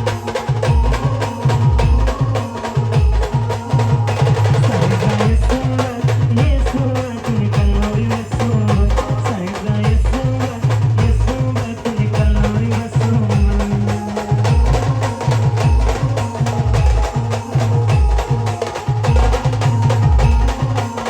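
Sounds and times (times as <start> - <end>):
fast drum beat: 0.0 - 21.0.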